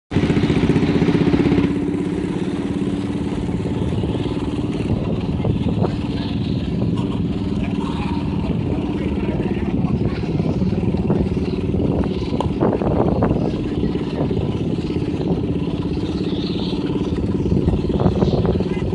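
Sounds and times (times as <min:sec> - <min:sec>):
garden tractor engine running hard: 0:00.1 - 0:18.9.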